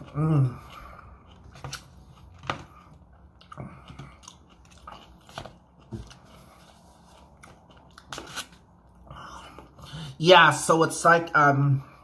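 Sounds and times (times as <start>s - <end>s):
person chewing leafy greens: 0.0s - 9.9s.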